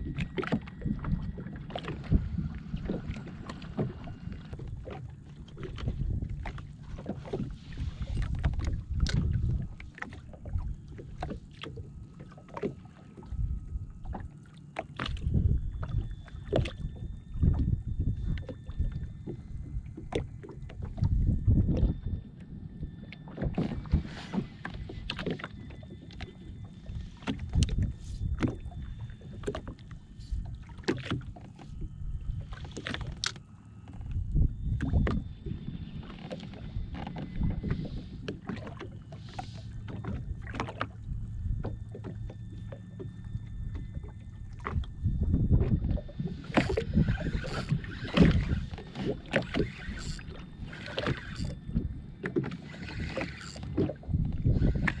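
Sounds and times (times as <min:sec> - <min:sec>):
small waves slapping hull: 0:00.0 - 0:55.0.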